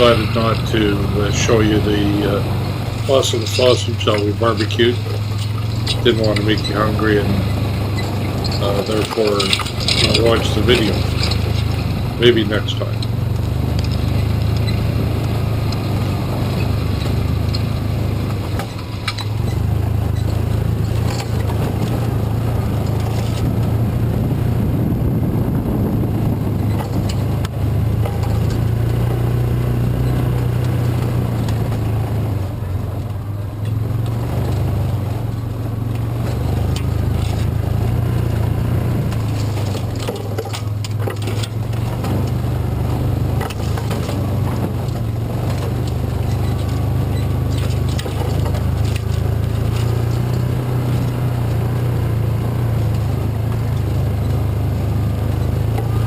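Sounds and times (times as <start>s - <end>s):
knocks and rattles: 0.0s - 24.6s, 26.1s - 56.0s
engine running on the move: 0.0s - 56.0s.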